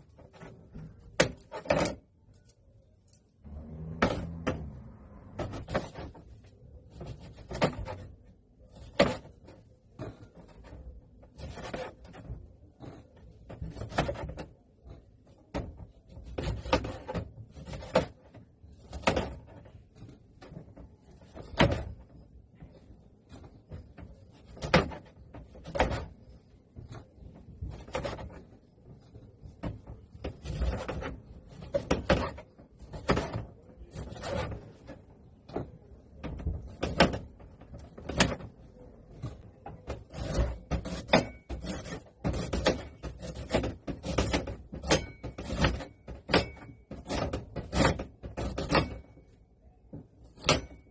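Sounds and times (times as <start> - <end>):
hard objects knocking and clattering: 3.8 - 50.9.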